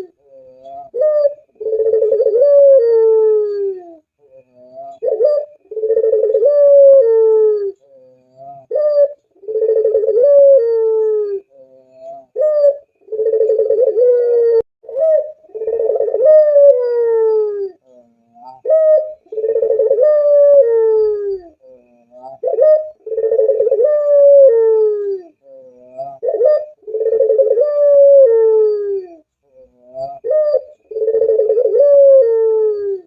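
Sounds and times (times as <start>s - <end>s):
dove cooing: 0.0s - 33.0s.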